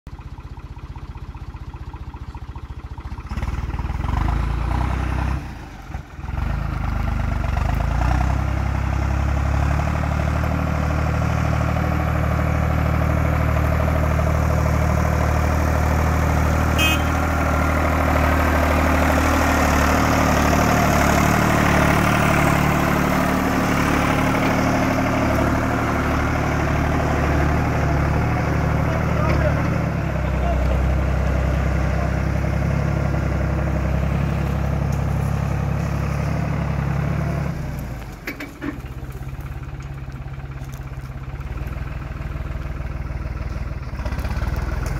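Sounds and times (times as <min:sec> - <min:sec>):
tractor diesel engine running: 0:00.1 - 0:44.9.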